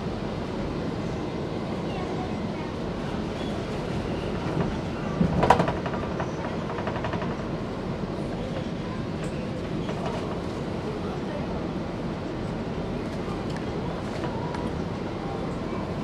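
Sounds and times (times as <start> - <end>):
train wheels rumbling on rails: 0.1 - 16.0.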